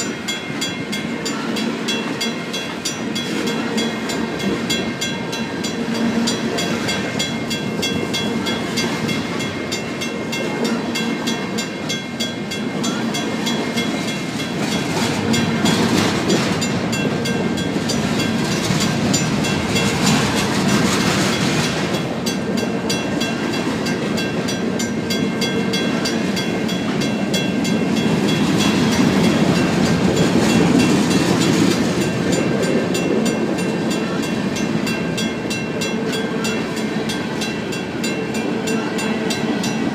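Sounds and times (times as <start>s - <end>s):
crossing bell ringing: 0.0s - 39.9s
train wheels clattering on rails: 0.0s - 39.9s.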